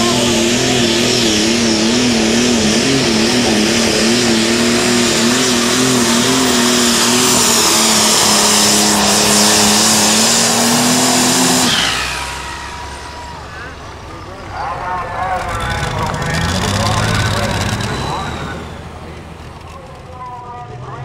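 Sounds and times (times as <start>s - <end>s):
tractor engine at full throttle: 0.0s - 21.0s.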